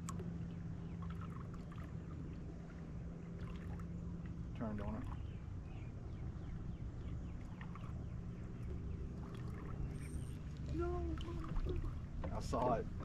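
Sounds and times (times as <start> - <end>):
open water rumble: 0.0 - 13.0
wind: 0.0 - 13.0.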